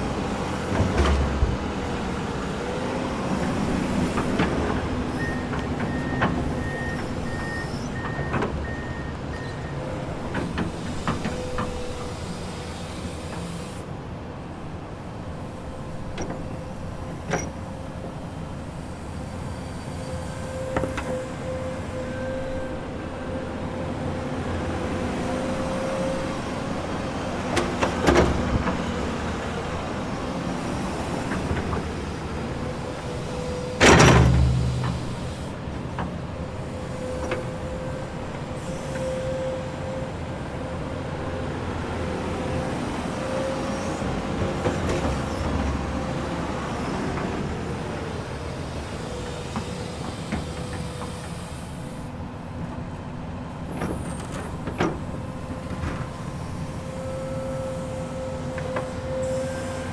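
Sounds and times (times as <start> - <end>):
excavator engine rumble: 0.0 - 59.9.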